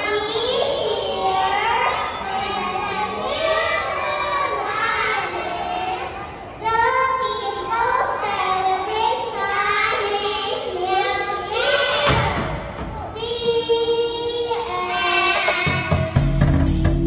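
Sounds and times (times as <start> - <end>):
children singing: 0.0 - 12.6, 13.2 - 16.2.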